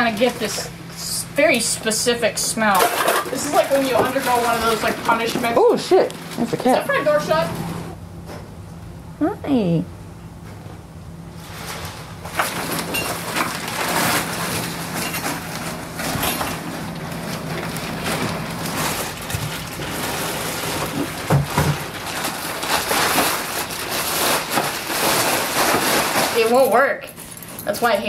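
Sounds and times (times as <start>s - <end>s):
plastic garbage bag rustling: 0.0s - 8.0s, 11.3s - 28.0s.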